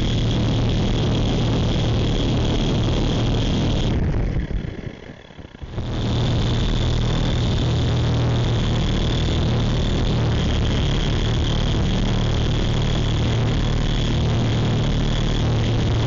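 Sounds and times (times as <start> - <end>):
toy helicopter motor whine: 0.0 - 16.0.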